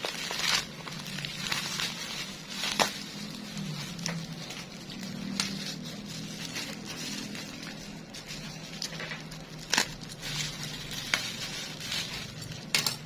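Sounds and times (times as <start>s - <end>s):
bubble wrap crackles: 0.0s - 13.0s
bubble wrap rustling and crinkling: 0.0s - 13.0s.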